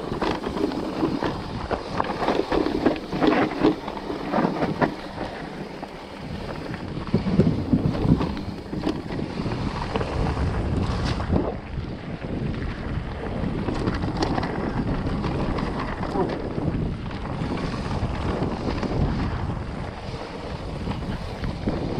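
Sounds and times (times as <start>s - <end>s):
bike rattling and knocking: 0.0s - 21.9s
tyres rolling over dirt and rocks: 0.0s - 21.9s
wind buffeting microphone: 0.0s - 21.9s.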